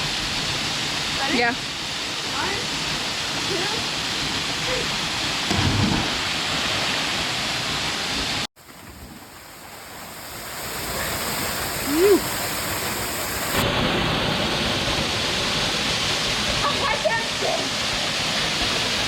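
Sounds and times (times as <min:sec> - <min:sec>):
waterfall rushing: 0:00.0 - 0:08.5, 0:09.2 - 0:19.0.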